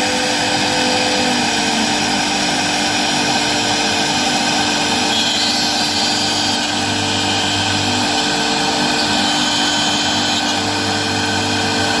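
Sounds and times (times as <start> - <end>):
router spindle whine: 0.0 - 12.0.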